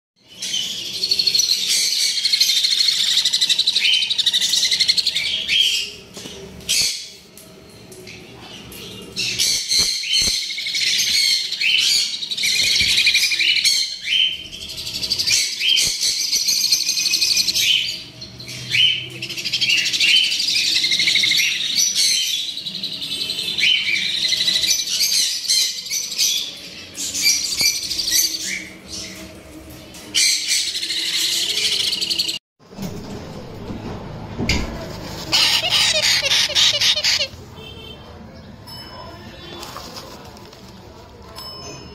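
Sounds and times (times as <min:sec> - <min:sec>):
parrot chicks chirping: 0:00.2 - 0:29.4, 0:30.1 - 0:32.4, 0:35.1 - 0:37.7.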